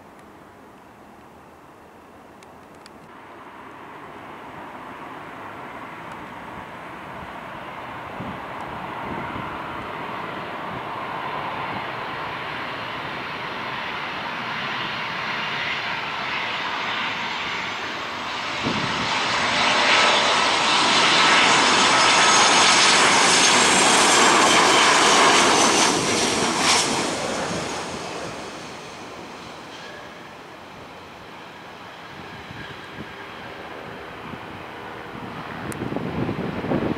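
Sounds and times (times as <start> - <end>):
jet engines whining: 3.8 - 36.9.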